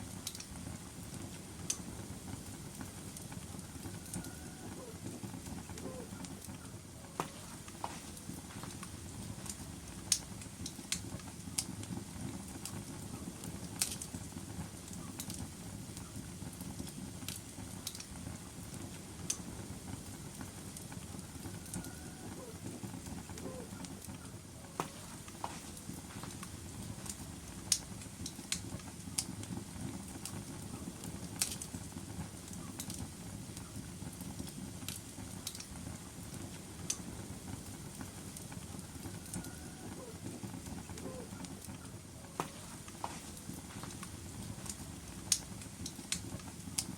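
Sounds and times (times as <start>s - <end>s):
logs crackling and popping: 0.0s - 46.9s
low rush of flame: 0.0s - 46.9s.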